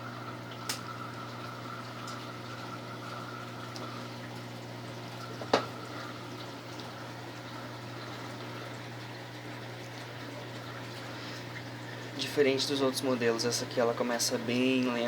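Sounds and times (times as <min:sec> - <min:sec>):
washing machine spinning: 0:00.0 - 0:15.0
water draining: 0:00.0 - 0:15.0.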